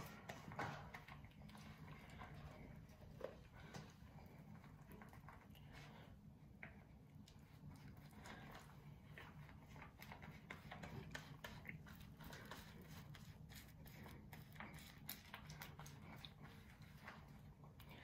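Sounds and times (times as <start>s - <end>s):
gloved fingers squishing cream in hair: 0.0s - 18.0s
low steady hum: 0.0s - 18.0s.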